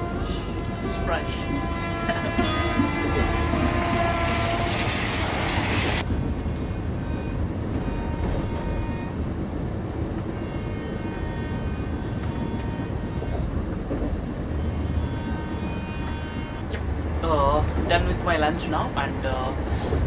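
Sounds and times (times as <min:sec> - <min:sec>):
train coach rumble: 0:00.0 - 0:20.0.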